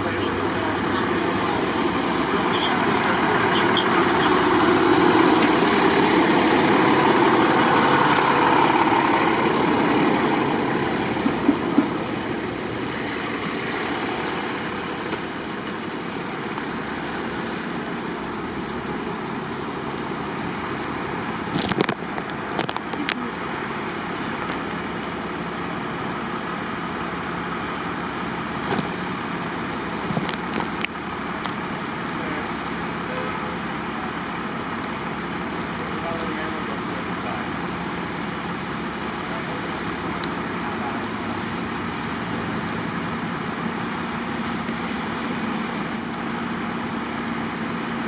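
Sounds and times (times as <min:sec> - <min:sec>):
heavy engines idling: 0:00.0 - 0:48.0
road traffic: 0:00.0 - 0:48.0.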